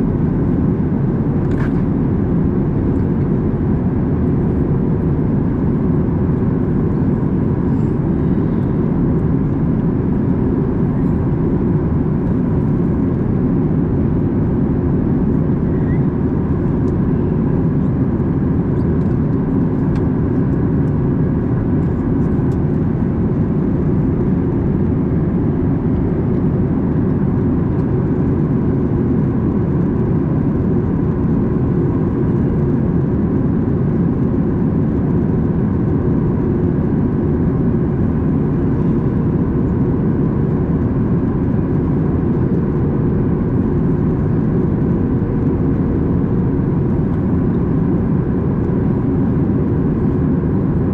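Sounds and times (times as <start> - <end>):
jet engines droning: 0.0 - 50.9
rush of airflow in cabin: 0.0 - 50.9.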